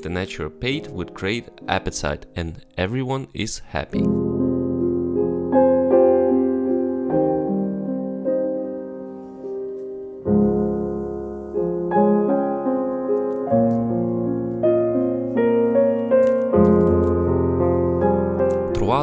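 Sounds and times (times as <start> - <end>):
gentle piano chords: 0.0 - 19.0.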